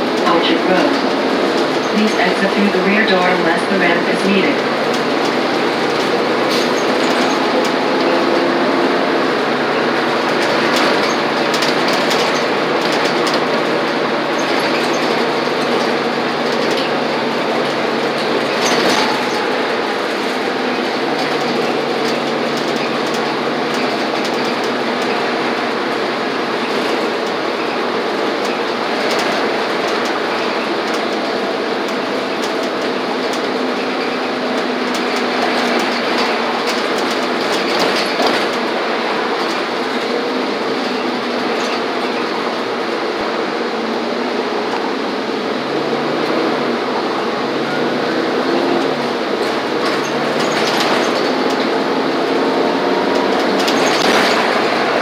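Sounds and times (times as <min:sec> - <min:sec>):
bus fittings rattling: 0:00.0 - 0:02.2, 0:04.4 - 0:43.6, 0:46.2 - 0:55.0
bus engine drone: 0:00.0 - 0:55.0
tyre and road noise: 0:00.0 - 0:55.0.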